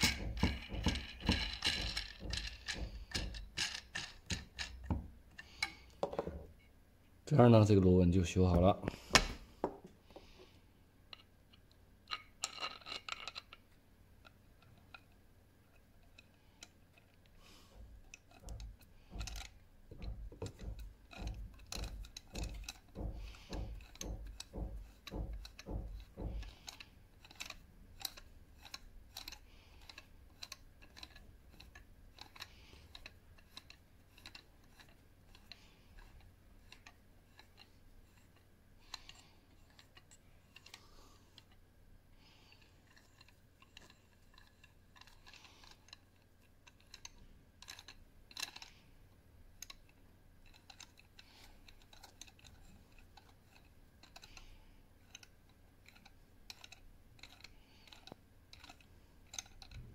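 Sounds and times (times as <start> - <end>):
small metal clicks: 11.1 - 41.6, 42.2 - 59.9.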